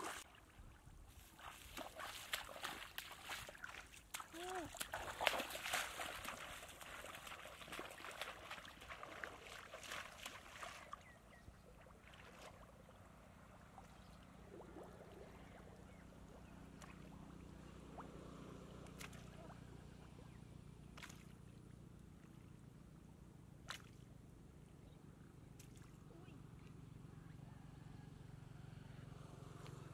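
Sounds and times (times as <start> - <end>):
feet splashing through muddy water: 0.0 - 22.8, 23.6 - 24.2, 25.5 - 26.9
faint low hum: 0.0 - 29.9.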